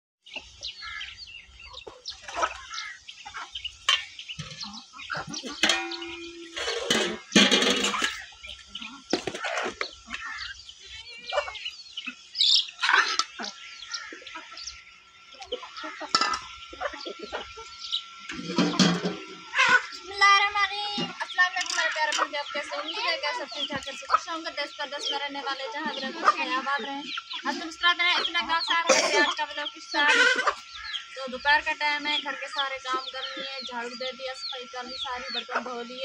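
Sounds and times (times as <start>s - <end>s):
chicks cheeping: 0.2s - 36.0s
chickens clucking: 0.3s - 36.0s.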